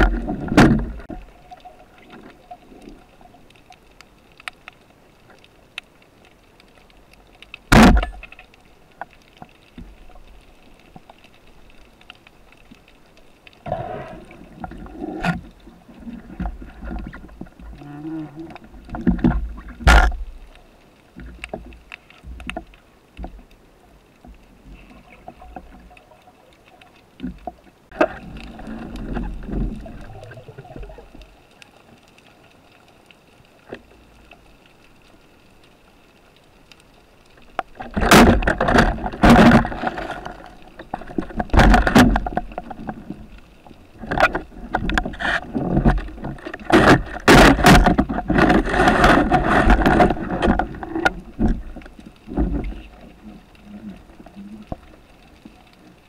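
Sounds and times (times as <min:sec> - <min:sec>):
water sloshing underwater: 0:00.0 - 0:56.0.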